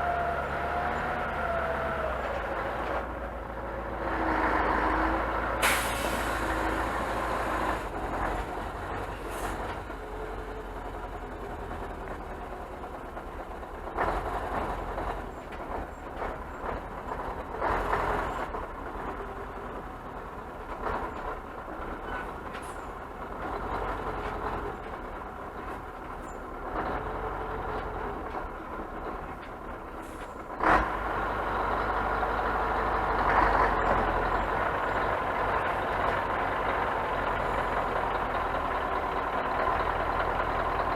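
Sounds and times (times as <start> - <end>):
truck engine rumbling: 0.0 - 40.9.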